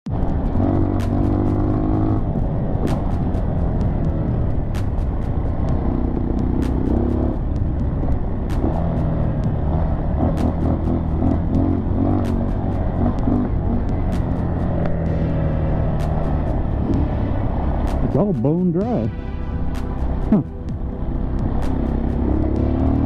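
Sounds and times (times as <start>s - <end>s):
dirt bike engine running: 0.1s - 19.0s
sharp clicks and ticks: 0.1s - 19.1s, 19.7s - 23.0s.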